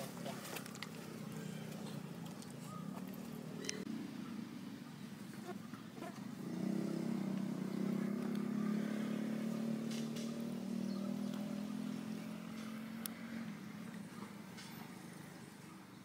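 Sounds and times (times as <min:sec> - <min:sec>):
vehicle engine running: 0:00.0 - 0:15.9.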